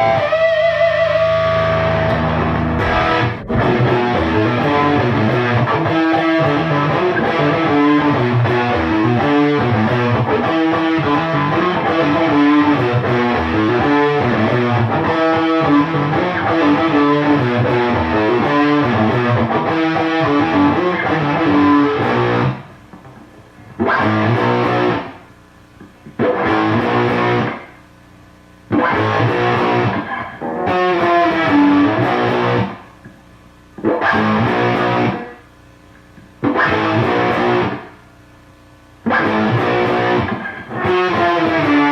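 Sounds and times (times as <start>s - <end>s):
fuzzed electric guitar riffing: 0.0s - 25.3s, 26.0s - 27.8s, 28.7s - 32.9s, 33.8s - 35.4s, 36.4s - 38.0s, 39.0s - 41.9s.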